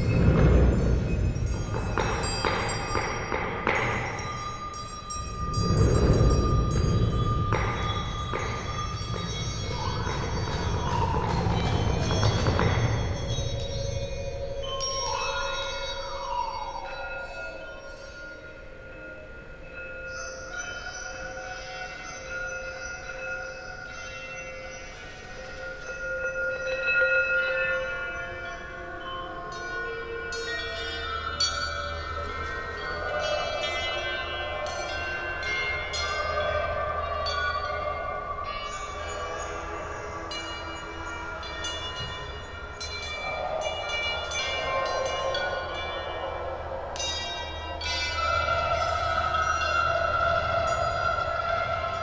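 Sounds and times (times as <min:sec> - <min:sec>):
bell-like chords: 0:00.0 - 0:52.0
sustained ringing tones: 0:00.0 - 0:52.0.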